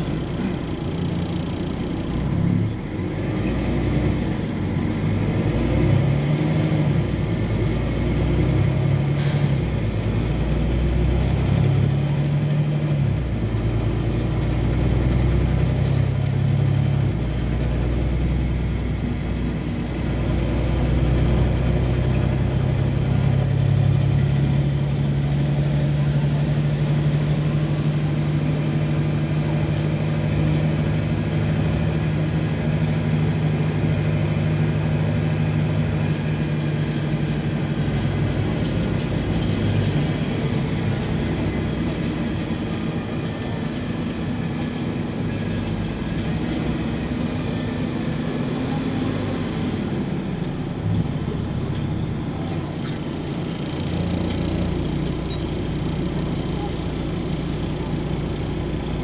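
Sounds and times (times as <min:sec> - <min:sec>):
diesel bus engine shifting gears: 0:00.0 - 0:59.0.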